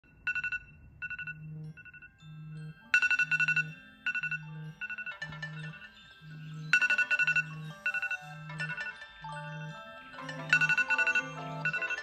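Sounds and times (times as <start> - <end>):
smartphone alarm beeps: 0.1 - 12.0.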